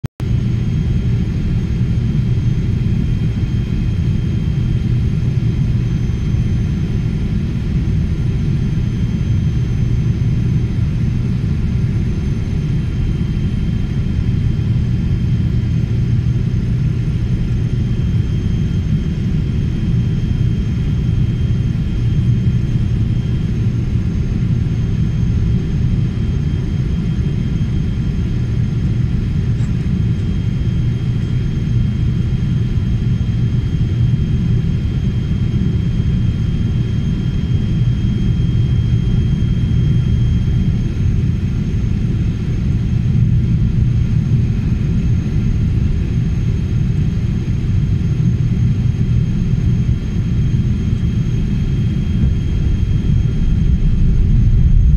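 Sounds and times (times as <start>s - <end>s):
jet engine rumble in cabin: 0.2s - 54.9s
faint high whine: 0.3s - 54.9s.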